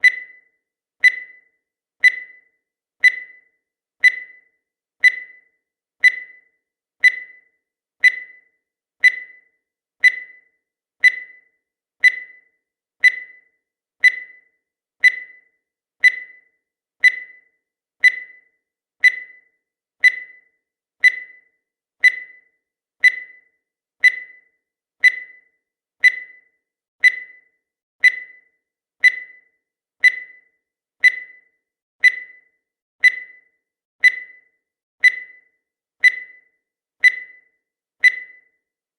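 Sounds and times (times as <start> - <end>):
countdown timer beeps: 0.0 - 38.7.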